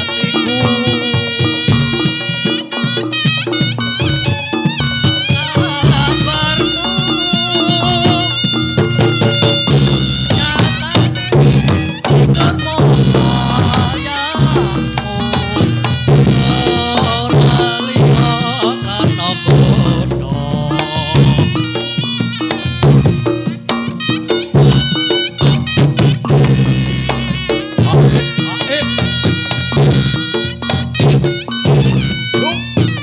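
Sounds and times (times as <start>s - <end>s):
drums and gongs beat: 0.0s - 33.0s
shawm melody: 0.0s - 33.0s.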